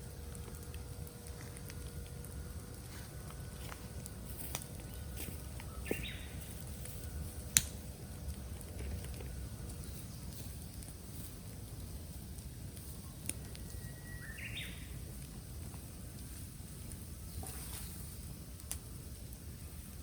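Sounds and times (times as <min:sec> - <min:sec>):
bamboo crackling in a bonfire: 0:00.0 - 0:20.0.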